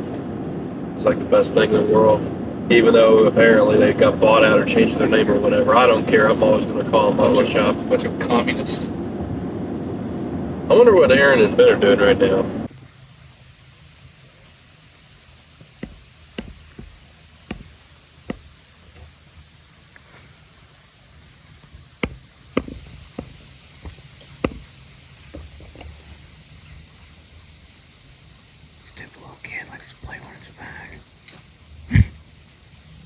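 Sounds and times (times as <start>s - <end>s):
faint insect chorus: 0.0s - 9.1s, 9.7s - 33.0s.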